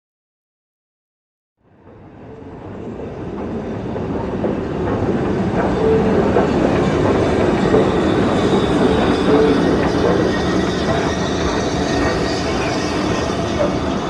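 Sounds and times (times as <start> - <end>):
train rumbling with wheel clatter: 1.7 - 14.0.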